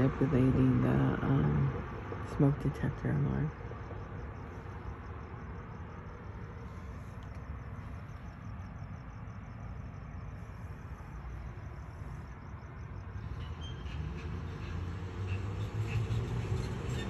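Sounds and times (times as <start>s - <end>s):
street traffic rumble: 0.0s - 17.0s
vehicle passing: 0.0s - 17.0s.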